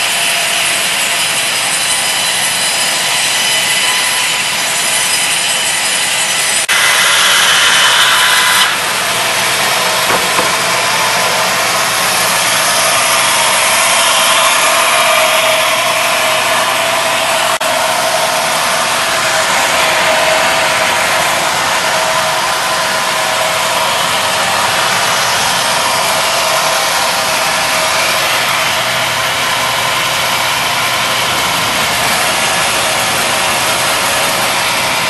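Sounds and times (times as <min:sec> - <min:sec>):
woodworking saw whining: 0:00.0 - 0:35.0.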